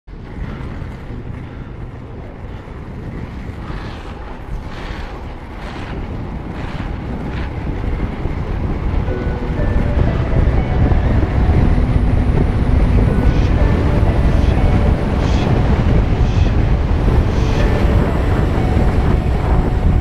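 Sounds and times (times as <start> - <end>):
skate wheels rolling on asphalt: 0.1 - 20.0
wind buffeting microphone: 0.1 - 20.0.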